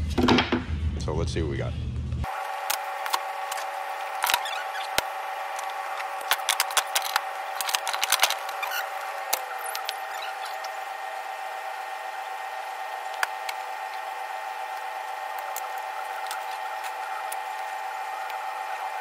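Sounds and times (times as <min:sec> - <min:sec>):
machine motor whine: 0:02.3 - 0:19.0.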